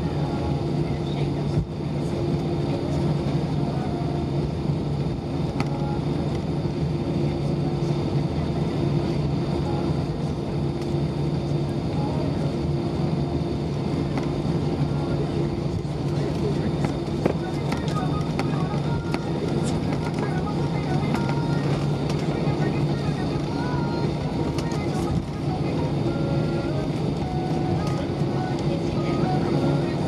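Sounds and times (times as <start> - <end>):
airplane cabin hum: 0.0 - 30.0.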